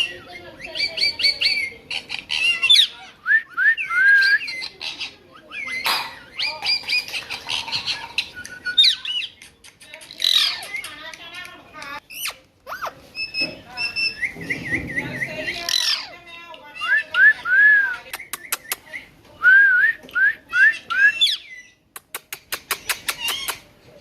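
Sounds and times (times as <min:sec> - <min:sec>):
parrot squawking and chirping: 0:00.0 - 0:03.2, 0:04.2 - 0:18.9, 0:20.6 - 0:23.8.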